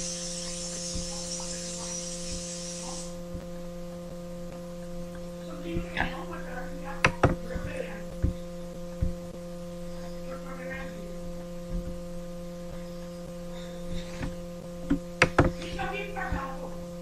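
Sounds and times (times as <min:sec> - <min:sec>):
electrical mains hum: 0:00.0 - 0:17.0
faint low thumps: 0:03.2 - 0:17.0.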